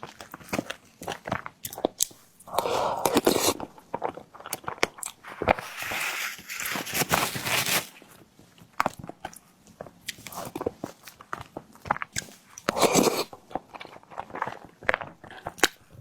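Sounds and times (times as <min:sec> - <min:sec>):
person chewing with mouth clicks: 0:00.1 - 0:05.8, 0:08.8 - 0:16.0.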